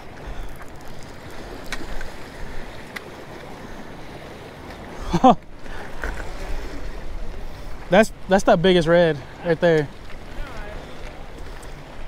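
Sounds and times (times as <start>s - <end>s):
waves splashing against rocks: 0.0s - 12.0s.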